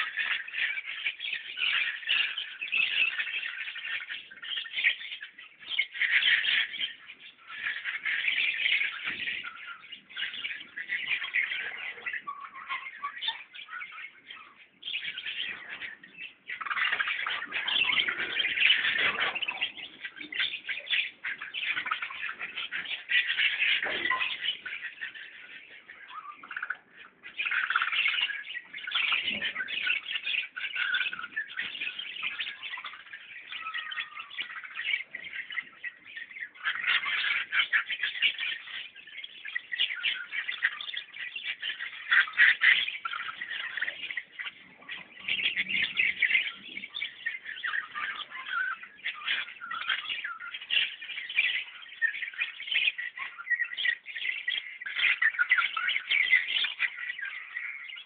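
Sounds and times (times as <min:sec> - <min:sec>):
flock of birds chirping: 0:00.0 - 0:58.0.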